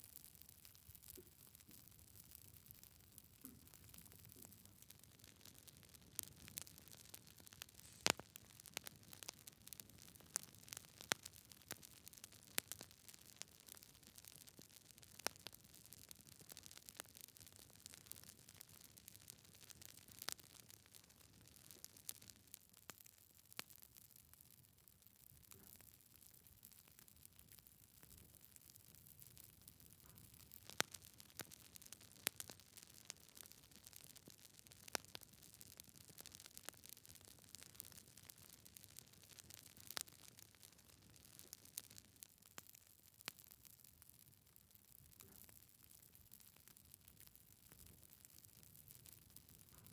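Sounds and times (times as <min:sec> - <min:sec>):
wood fire crackling: 0:00.0 - 0:24.7, 0:25.3 - 0:49.9
faint steady hiss: 0:00.0 - 0:49.9.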